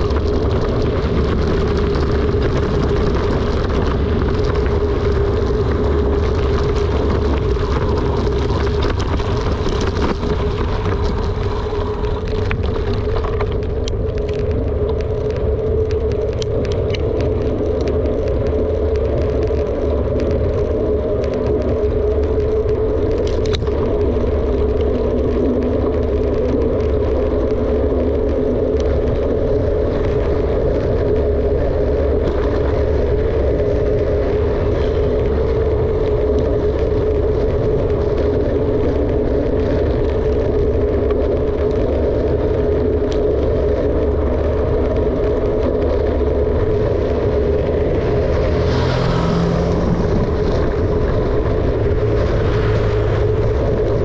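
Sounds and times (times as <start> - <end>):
bike tyre noise: 0.0 - 54.0
constant hum: 0.0 - 54.0
wind on microphone: 0.0 - 54.0.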